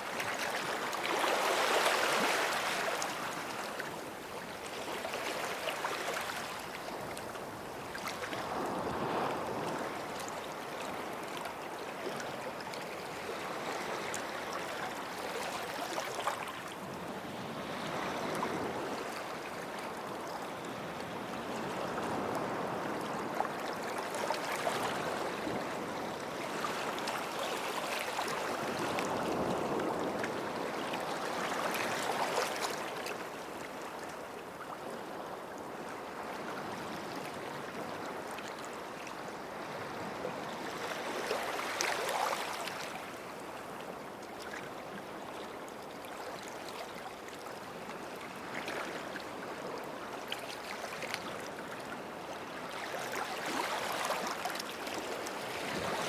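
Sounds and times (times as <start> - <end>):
small waves on sandy shore: 0.0 - 56.0.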